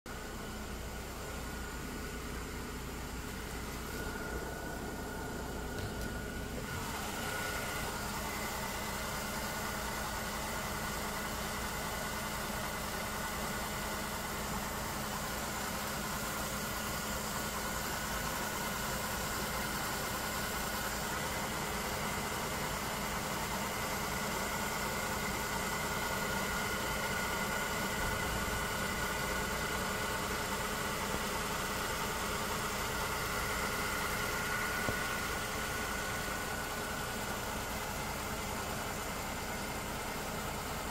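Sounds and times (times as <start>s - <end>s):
engine idling: 0.1s - 40.9s.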